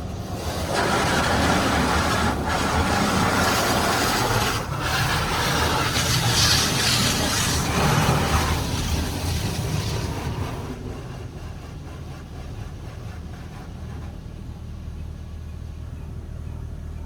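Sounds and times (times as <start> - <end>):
high-pressure water spray on car: 0.0 - 14.4.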